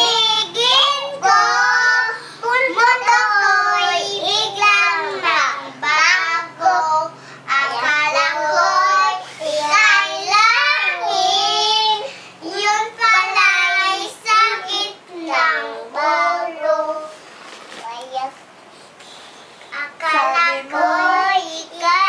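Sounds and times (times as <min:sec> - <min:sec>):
girls singing in high voices: 0:00.0 - 0:17.2, 0:19.8 - 0:22.0.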